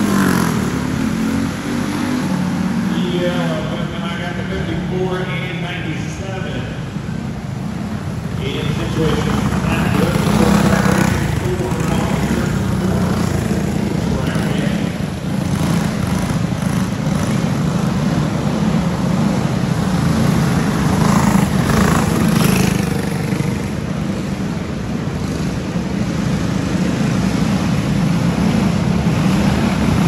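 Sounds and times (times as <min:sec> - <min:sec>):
go-kart engines racing: 0:00.0 - 0:30.0.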